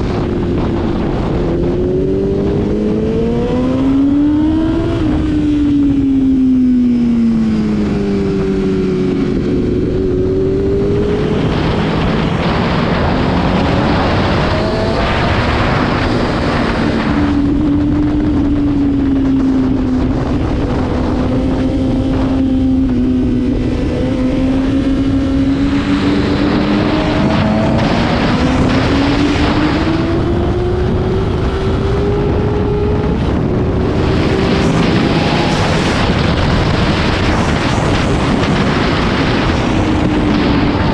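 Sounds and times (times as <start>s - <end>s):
heavy wind rush: 0.0s - 40.9s
motorcycle engine revving: 0.0s - 40.9s.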